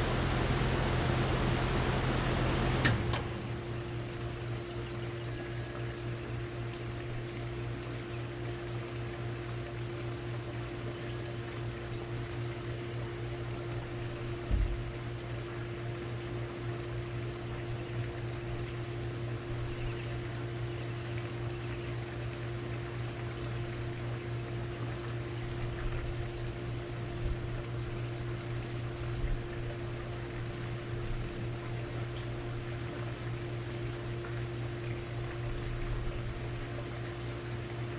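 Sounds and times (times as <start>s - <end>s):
compressor low hum: 0.0s - 37.9s
condenser fan rushing: 0.0s - 37.9s.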